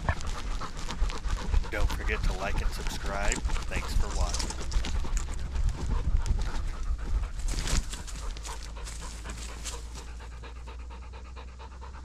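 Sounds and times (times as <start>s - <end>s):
dog panting: 0.0s - 12.0s
rumbling and rustling noise: 0.0s - 12.0s.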